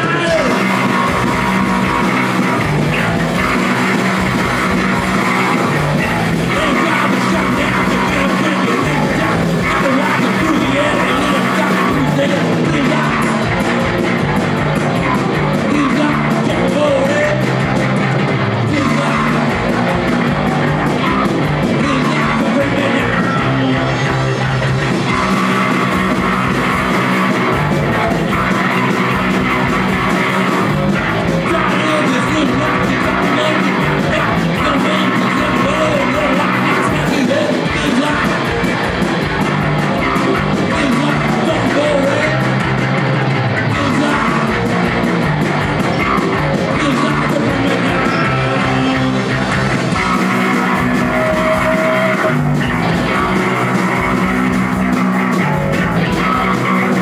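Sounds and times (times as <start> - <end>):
bass guitar: 0.0 - 57.0
drums: 0.0 - 57.0
electric guitar: 0.0 - 57.0.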